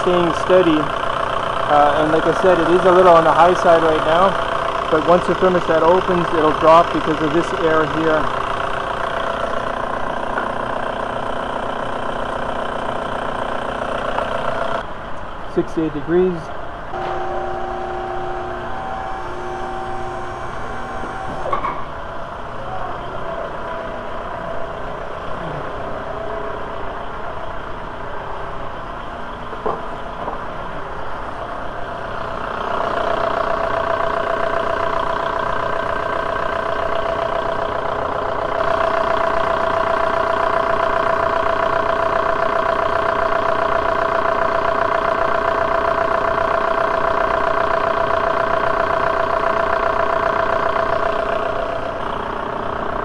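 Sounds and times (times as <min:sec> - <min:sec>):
diesel engine idling: 0:00.0 - 0:53.0
steady whine: 0:00.0 - 0:53.0.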